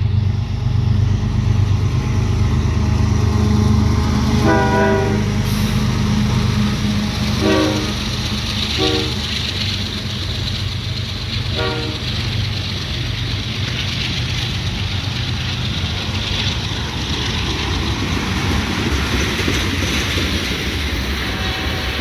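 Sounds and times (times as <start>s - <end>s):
diesel locomotive rumble: 0.0s - 22.0s
rail and wheel noise: 0.0s - 22.0s.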